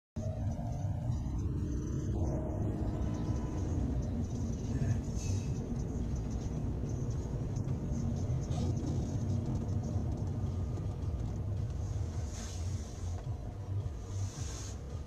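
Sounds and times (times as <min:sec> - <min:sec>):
car engine and tyres on snow: 0:00.2 - 0:15.0.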